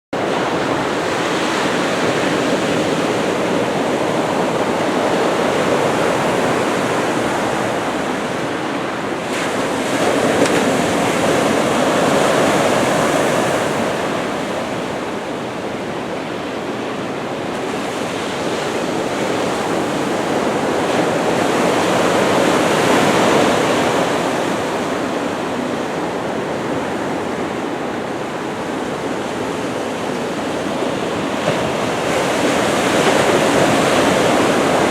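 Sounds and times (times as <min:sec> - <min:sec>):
ocean waves breaking: 0:00.2 - 0:34.9.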